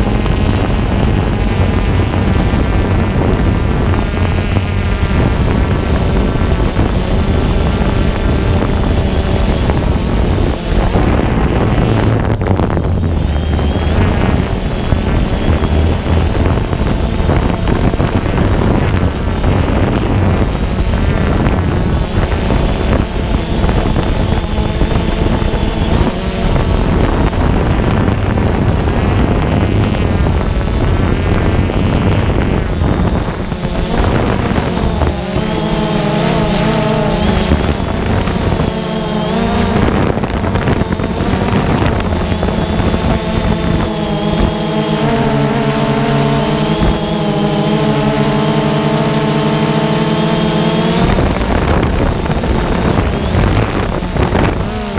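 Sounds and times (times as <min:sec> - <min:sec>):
drone propellers whirring: 0:00.0 - 0:54.9
motor whine wavering in pitch: 0:00.0 - 0:54.9
wind on microphone: 0:00.0 - 0:54.9.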